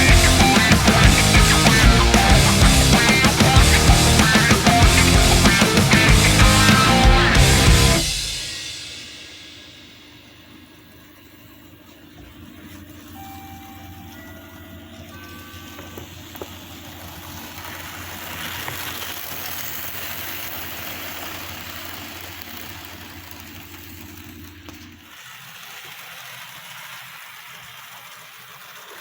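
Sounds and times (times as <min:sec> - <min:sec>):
model train motor hum: 0:00.0 - 0:29.0
wheel and track noise: 0:00.0 - 0:29.0.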